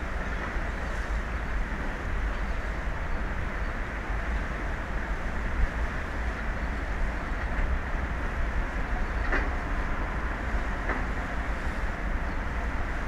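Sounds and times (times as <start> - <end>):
open sea rushing: 0.0 - 13.0
wind rumbling on microphone: 0.0 - 13.0.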